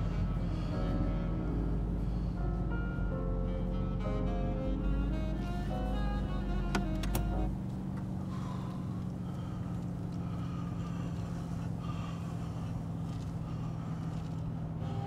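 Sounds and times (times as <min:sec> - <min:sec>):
car interior drone: 0:00.0 - 0:15.0.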